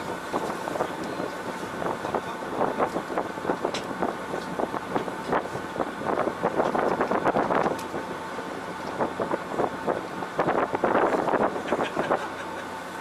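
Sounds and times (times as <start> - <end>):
wind on microphone: 0.0 - 12.4
boat engine running: 0.0 - 13.0.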